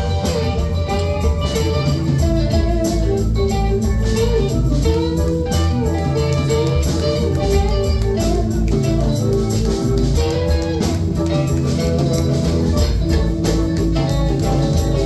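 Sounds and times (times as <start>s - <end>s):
bass guitar: 0.0s - 15.0s
drums: 0.0s - 15.0s
electric guitars: 0.0s - 15.0s
keyboards: 0.0s - 15.0s.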